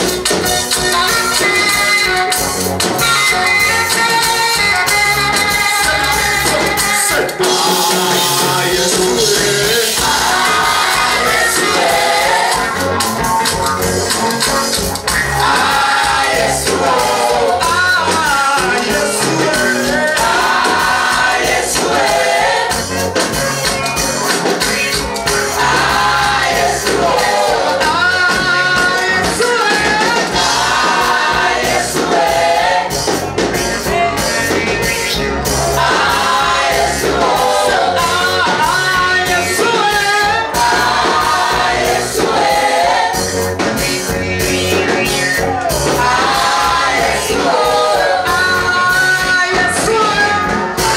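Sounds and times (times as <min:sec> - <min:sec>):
band accompaniment with bass: 0:00.0 - 0:50.9
voices singing a gospel song: 0:00.0 - 0:50.9.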